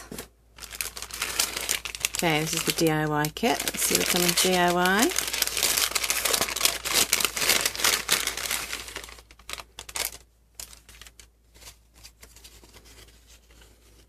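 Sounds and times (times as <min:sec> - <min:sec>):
crinkly packaging crackling: 0:00.0 - 0:14.0.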